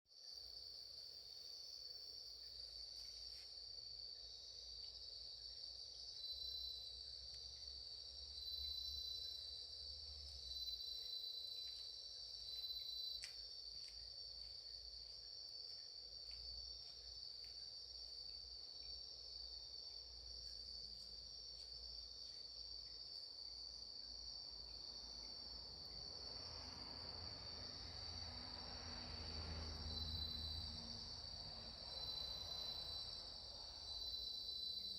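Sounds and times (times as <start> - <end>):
thin insect trill: 0.1 - 34.9.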